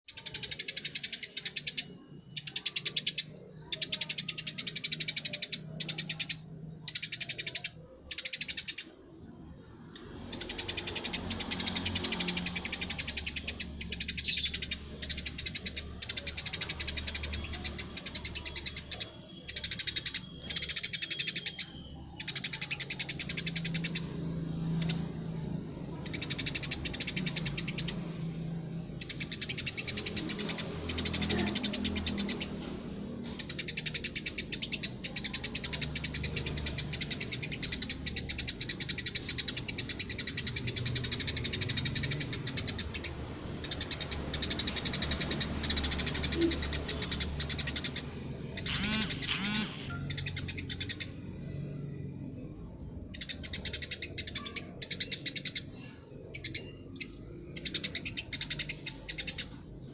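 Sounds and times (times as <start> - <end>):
sparrow chirping rapidly: 0.1 - 59.9.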